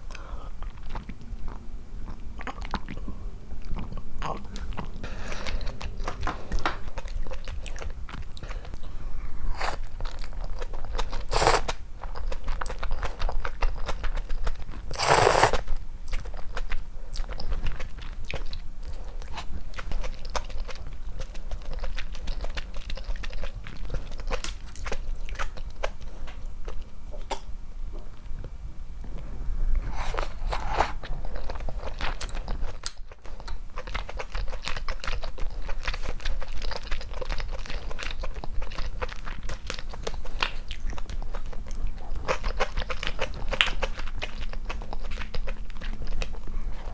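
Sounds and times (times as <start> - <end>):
person chewing crunchy food: 0.0 - 27.5, 29.9 - 46.9.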